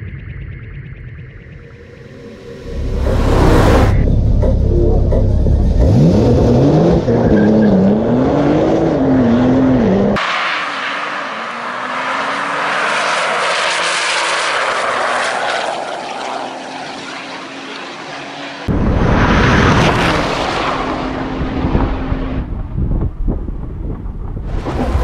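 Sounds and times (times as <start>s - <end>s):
car engine accelerating hard: 1.9s - 22.9s.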